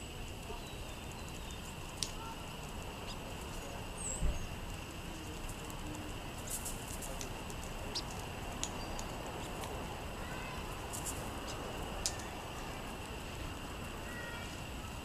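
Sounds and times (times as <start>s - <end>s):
faint high-pitched background tone: 0.0s - 15.0s
quail pecking seed off pavement: 0.4s - 15.0s.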